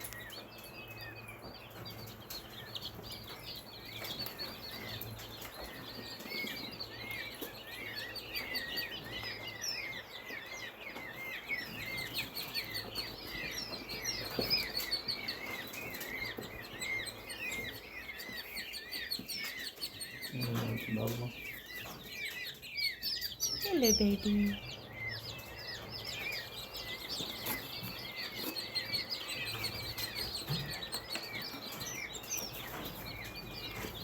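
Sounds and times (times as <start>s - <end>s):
chicks peeping: 0.0s - 34.0s.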